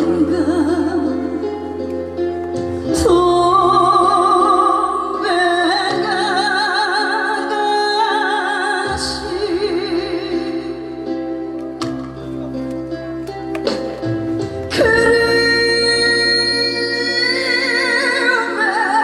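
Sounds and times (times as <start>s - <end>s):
live ballad with band: 0.0s - 19.0s.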